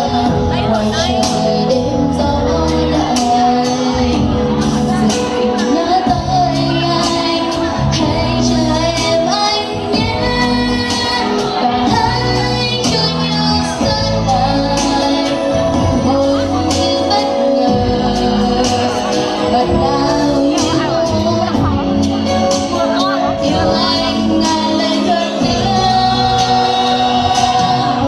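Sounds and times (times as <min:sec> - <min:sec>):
band with steady drum beat: 0:00.0 - 0:28.0
woman singing: 0:00.0 - 0:28.0.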